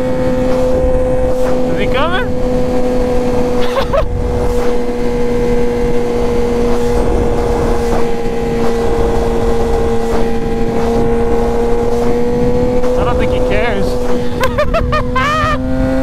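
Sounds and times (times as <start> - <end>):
motorcycle engine running hard: 0.0 - 16.0
wind noise on microphone: 0.0 - 16.0.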